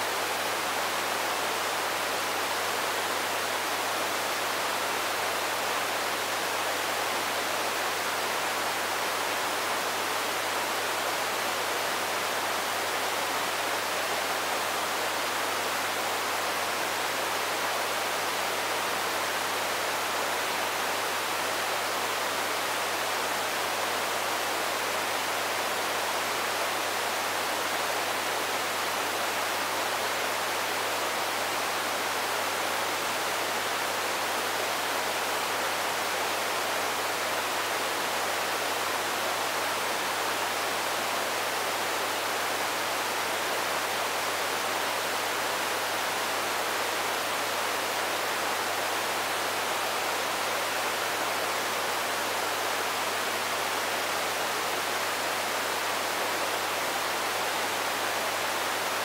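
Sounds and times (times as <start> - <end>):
steady white noise hiss: 0.0 - 59.0.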